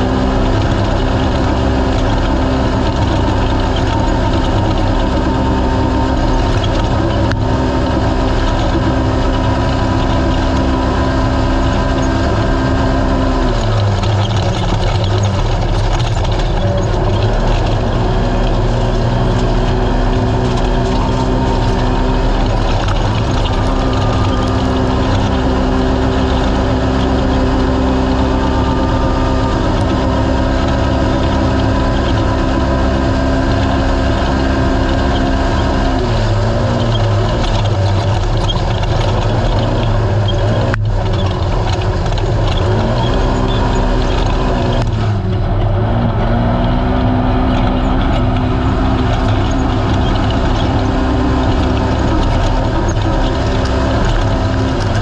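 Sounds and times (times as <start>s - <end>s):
racing engine at high revs: 0.0s - 55.0s.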